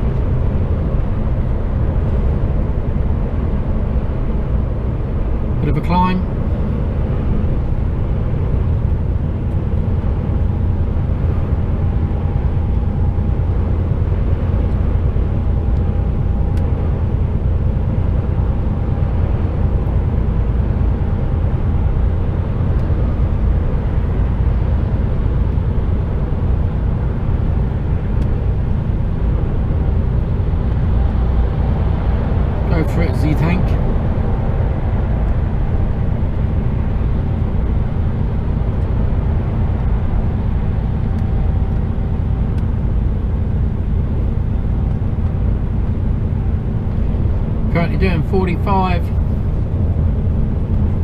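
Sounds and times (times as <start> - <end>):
lorry engine and road rumble: 0.0 - 51.0.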